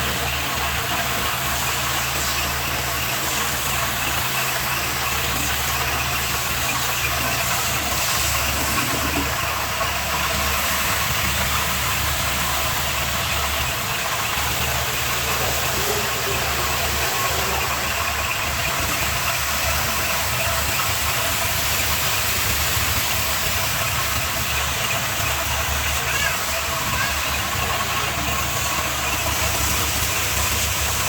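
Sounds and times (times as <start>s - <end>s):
pressure washer pump running: 0.0s - 31.0s
water jet hissing: 0.0s - 31.0s.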